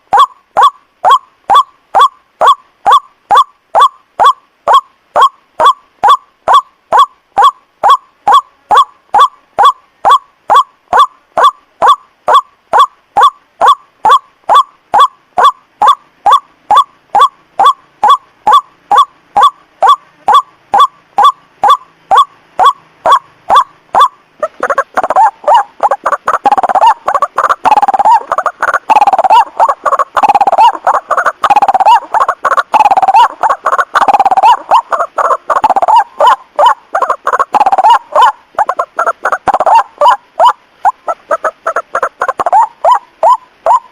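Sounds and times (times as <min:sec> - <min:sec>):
waterhens calling: 0:00.0 - 0:43.9.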